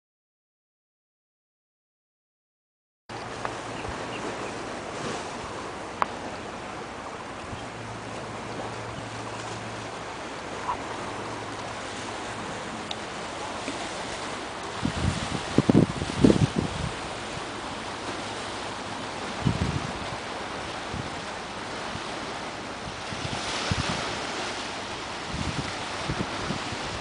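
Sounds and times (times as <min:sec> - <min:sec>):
steady rushing outdoor noise: 0:03.1 - 0:27.0.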